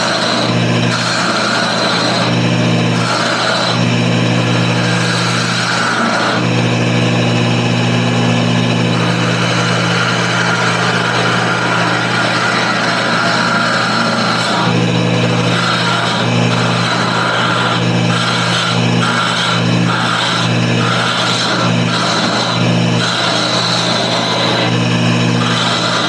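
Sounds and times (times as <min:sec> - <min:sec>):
turning tool cutting wood: 0:00.0 - 0:26.0
wood lathe motor hum: 0:00.0 - 0:26.0.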